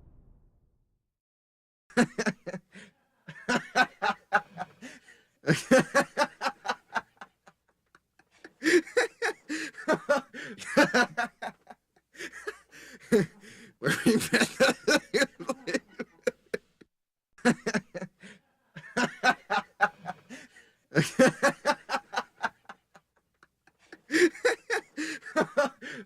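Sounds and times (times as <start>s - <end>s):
man laughing: 1.9s - 16.6s, 17.4s - 26.0s.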